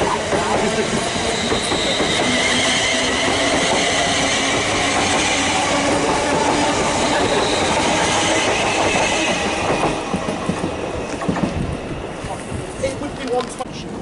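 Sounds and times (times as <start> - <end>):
train wheel-on-rail rumble: 0.0 - 14.0.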